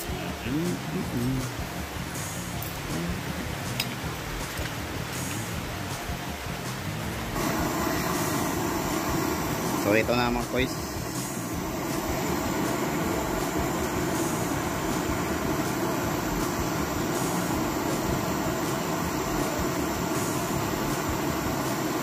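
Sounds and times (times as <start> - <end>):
mechanical drone with low hum: 0.0 - 22.0.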